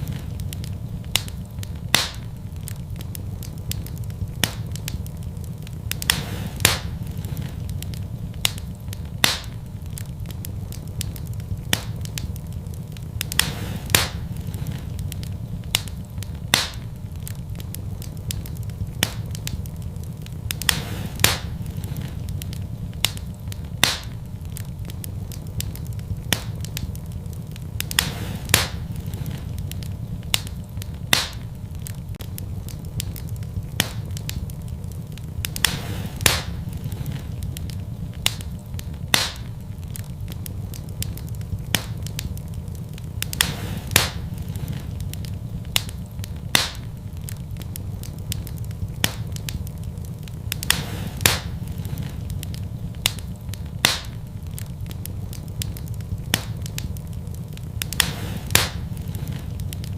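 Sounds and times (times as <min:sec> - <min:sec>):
fire popping and crackling: 0:00.0 - 0:59.9
wood fire rumbling: 0:00.0 - 0:59.9.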